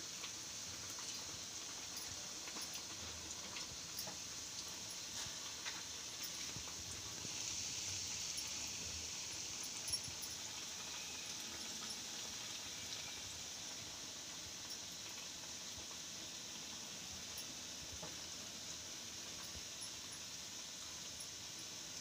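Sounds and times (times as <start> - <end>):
food deep-frying in oil: 0.0 - 22.0.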